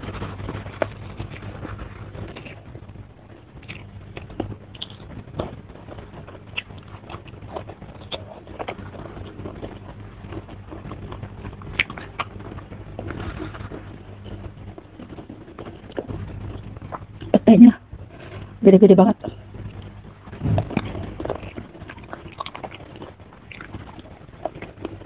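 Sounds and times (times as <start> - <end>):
low steady hum: 0.0 - 25.0
wet chewing and smacking: 0.1 - 17.3, 19.2 - 25.0.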